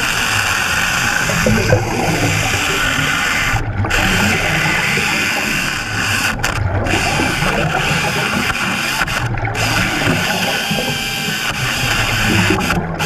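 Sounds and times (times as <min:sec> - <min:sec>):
chainsaw cutting wood underwater: 0:00.0 - 0:13.0.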